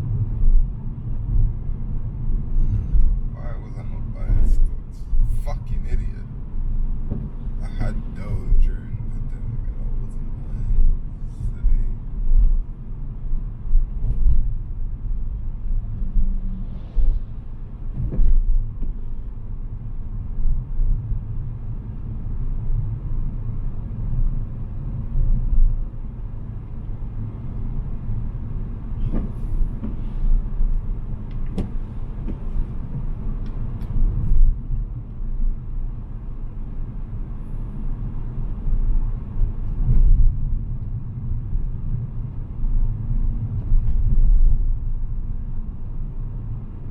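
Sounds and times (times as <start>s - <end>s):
car engine rumble: 0.0s - 46.9s
road noise: 0.0s - 46.9s.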